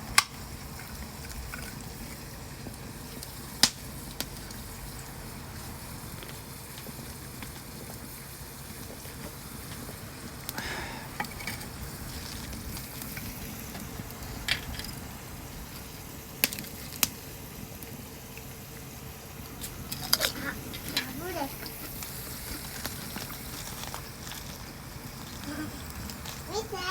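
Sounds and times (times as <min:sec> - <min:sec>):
potatoes sizzling in oil: 0:00.0 - 0:26.9.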